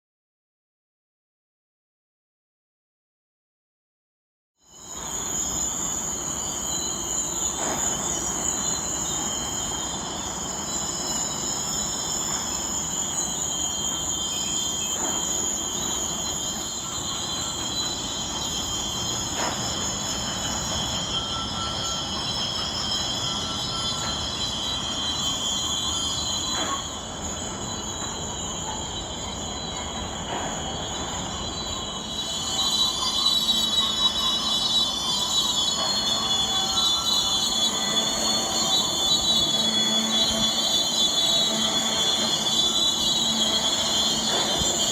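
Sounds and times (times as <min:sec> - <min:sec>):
high-pitched rail screeching: 0:04.7 - 0:44.9
train rumbling: 0:04.9 - 0:44.9.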